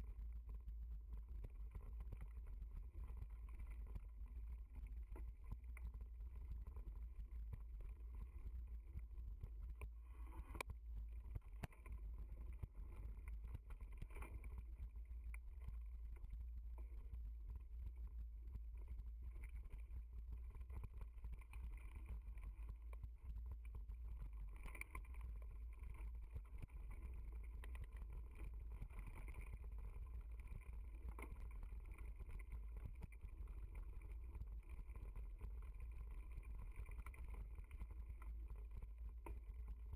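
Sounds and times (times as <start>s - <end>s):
wind and riding rumble: 0.0s - 39.9s.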